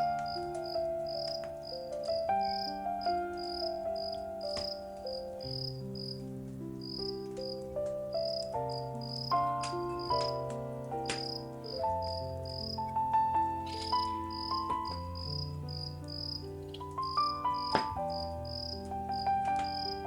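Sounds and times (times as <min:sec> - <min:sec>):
crickets chirping: 0:00.0 - 0:20.0
soft slow music: 0:00.0 - 0:20.0
wood fire crackling: 0:00.0 - 0:20.0.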